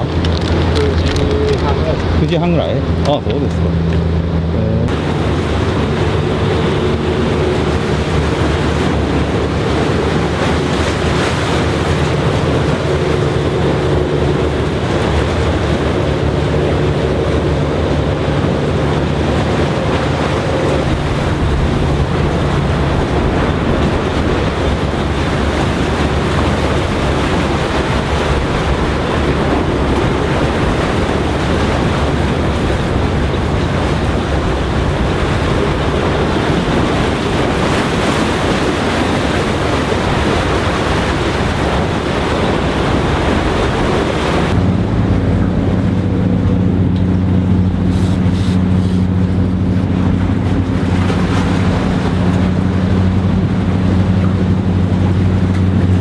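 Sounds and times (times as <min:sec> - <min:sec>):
boat engine drone: 0:00.0 - 0:56.0
waves rushing: 0:00.0 - 0:56.0.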